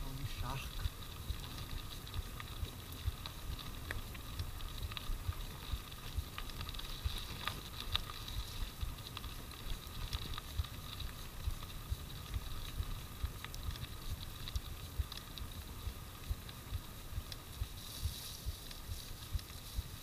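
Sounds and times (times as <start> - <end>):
bike tyres rumbling on gravel: 0.0 - 20.0.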